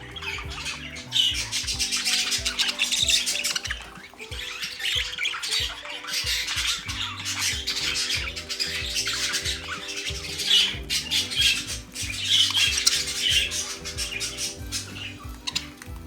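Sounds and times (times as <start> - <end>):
background music: 0.0 - 16.0
budgerigars chattering and squawking: 0.0 - 16.0.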